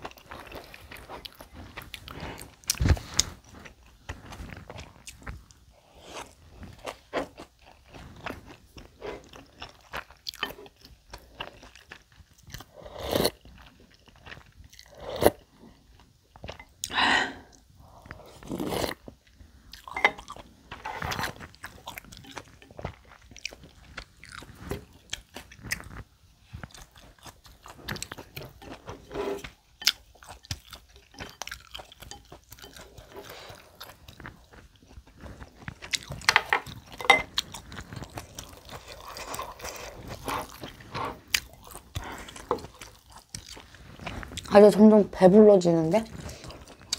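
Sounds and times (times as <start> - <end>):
person chewing food wetly: 0.0 - 44.5, 46.1 - 46.9.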